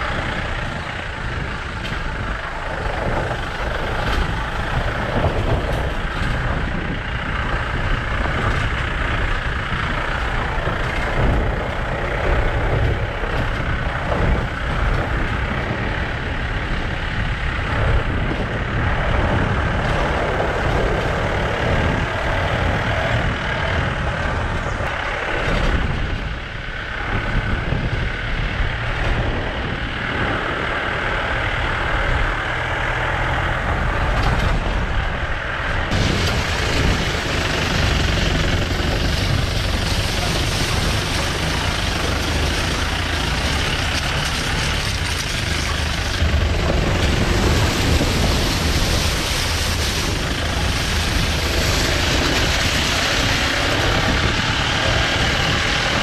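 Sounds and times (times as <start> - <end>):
vehicle rumbling on road: 0.0 - 56.0.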